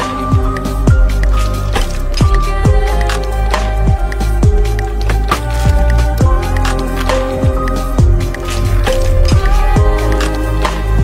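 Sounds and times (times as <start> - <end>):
electronic music with deep kick drums: 0.0 - 11.0.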